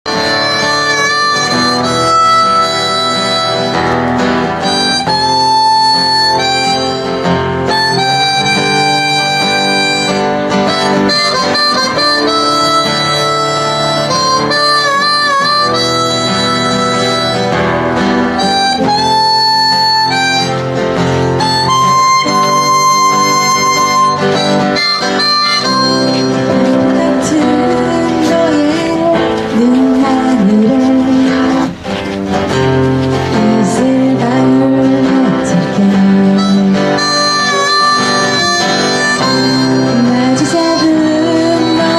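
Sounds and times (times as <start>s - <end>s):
acoustic guitar chords: 0.0s - 41.9s
harmonica melody: 0.0s - 41.9s.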